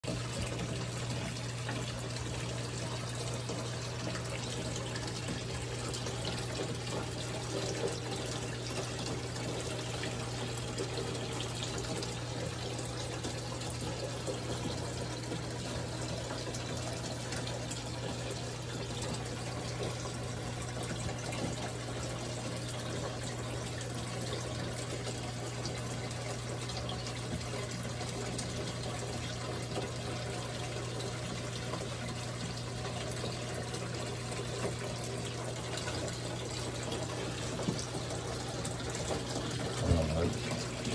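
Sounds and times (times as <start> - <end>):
water fountain trickling: 0.0 - 40.9.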